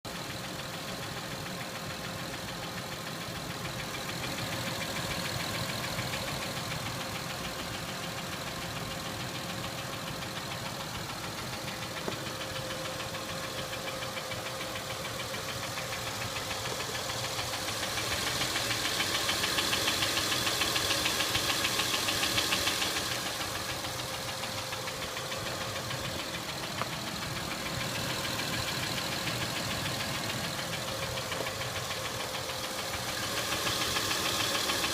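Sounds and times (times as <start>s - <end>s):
car engine fast ticking: 0.0s - 34.9s.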